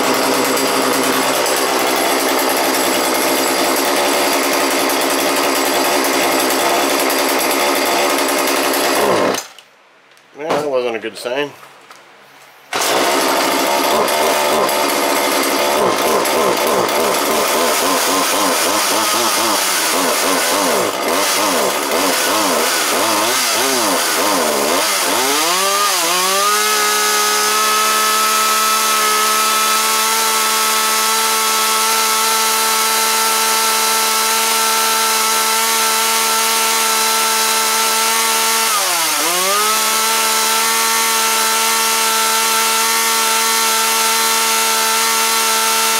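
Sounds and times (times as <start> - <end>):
chainsaw engine revving: 0.0 - 9.6, 12.7 - 45.9.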